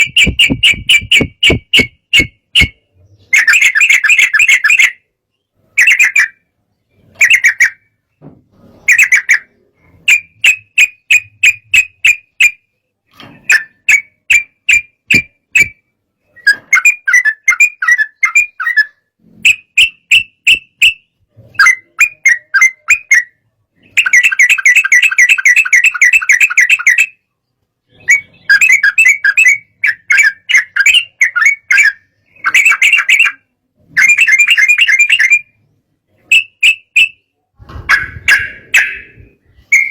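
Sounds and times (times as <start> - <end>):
bird chattering song: 0.0 - 8.2, 8.9 - 12.7, 13.5 - 27.3, 27.9 - 35.6, 36.2 - 39.9.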